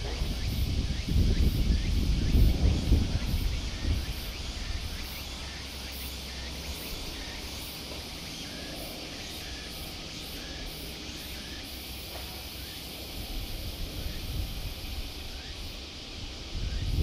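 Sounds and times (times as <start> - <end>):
broad hiss: 0.0 - 17.0.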